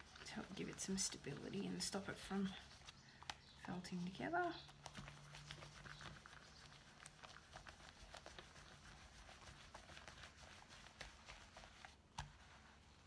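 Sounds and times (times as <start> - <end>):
wet clicks and crackles of rubbed wool: 0.0 - 12.7.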